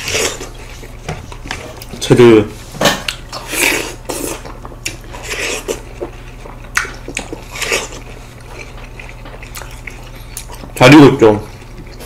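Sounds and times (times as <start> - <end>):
biting and chewing watermelon: 0.0 - 2.0, 3.0 - 12.0
steady low hum: 0.0 - 12.0.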